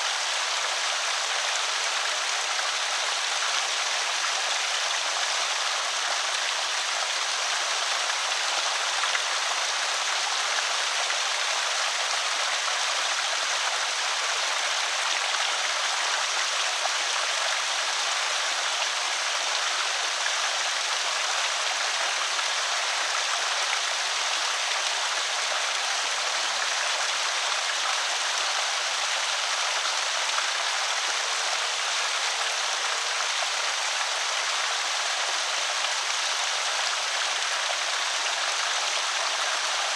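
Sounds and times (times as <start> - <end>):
water pouring over spillway: 0.0 - 39.9.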